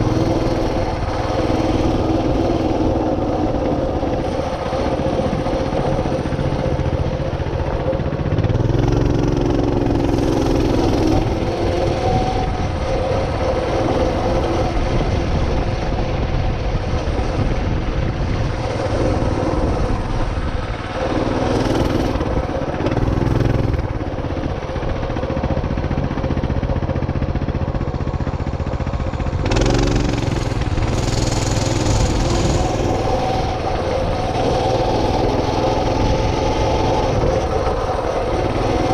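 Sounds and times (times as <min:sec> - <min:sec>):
small vehicle engine revving: 0:00.0 - 0:38.9
wind noise: 0:00.0 - 0:38.9.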